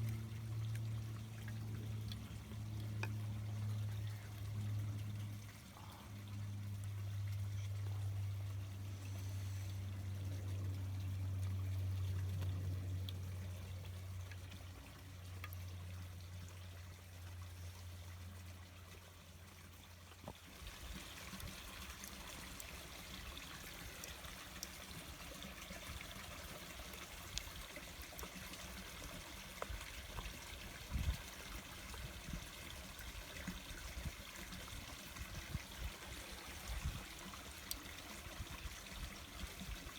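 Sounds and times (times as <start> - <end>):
low steady hum: 0.0 - 39.9
water trickling: 0.0 - 39.9.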